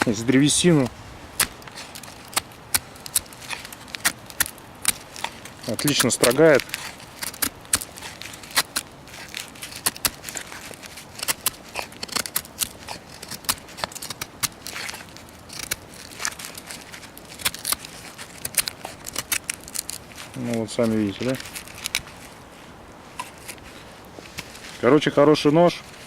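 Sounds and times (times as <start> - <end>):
knife whittling wood: 1.4 - 22.4.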